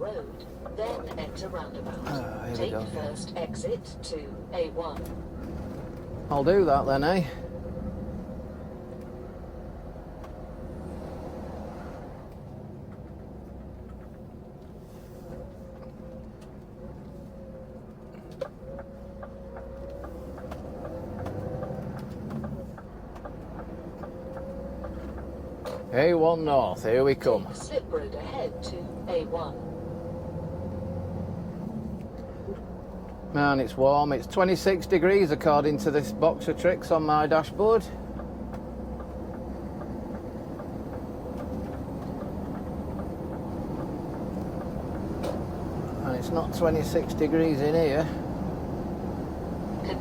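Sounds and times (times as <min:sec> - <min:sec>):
lorry engine hum: 0:00.0 - 0:50.0.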